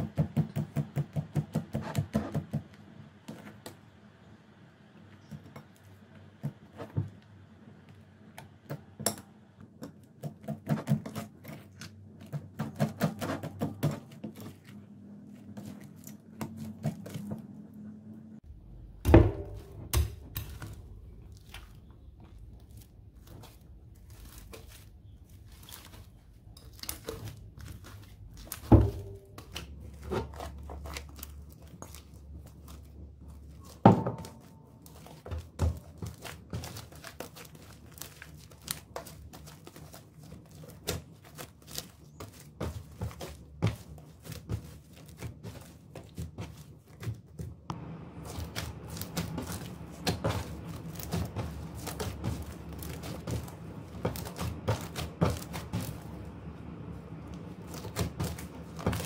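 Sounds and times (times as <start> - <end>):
slime crackling and squishing: 10.0 - 17.7, 18.4 - 59.0.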